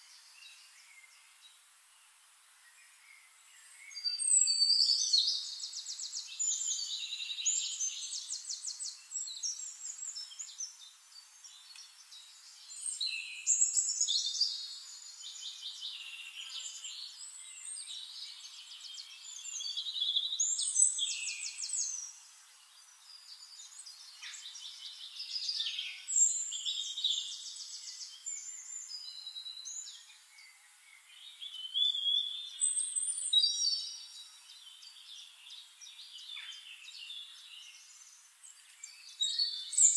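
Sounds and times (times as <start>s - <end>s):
songbirds trilling and whistling: 0.0s - 39.9s.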